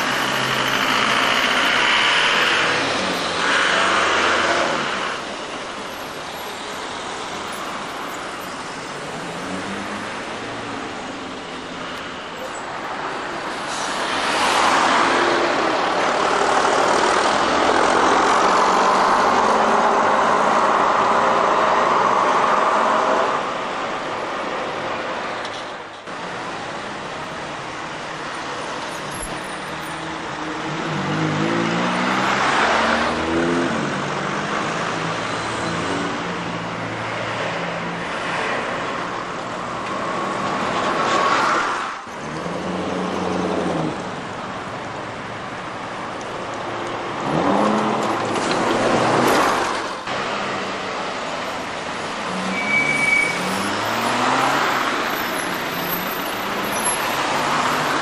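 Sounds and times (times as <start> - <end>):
street traffic: 0.0 - 58.0.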